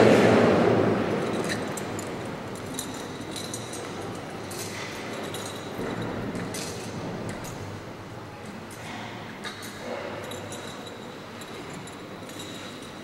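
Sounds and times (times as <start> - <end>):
faint clicks and clinks: 1.0 - 13.0.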